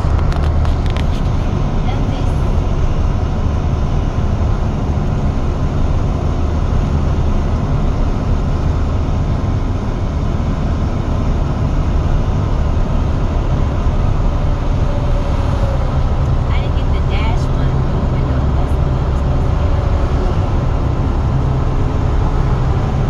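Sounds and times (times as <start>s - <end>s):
truck engine and tyre rumble: 0.0s - 23.0s.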